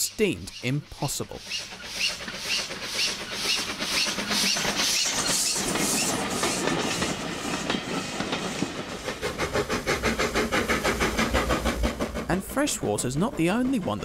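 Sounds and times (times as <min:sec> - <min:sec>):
steam locomotive exhaust beats: 0:00.0 - 0:14.0
wheels clicking over rail joints: 0:01.4 - 0:14.0.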